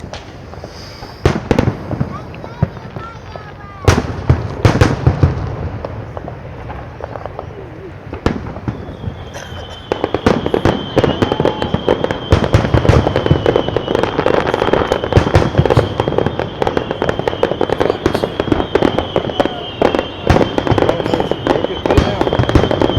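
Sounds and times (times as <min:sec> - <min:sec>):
fireworks booms and crackles: 0:00.0 - 0:22.9.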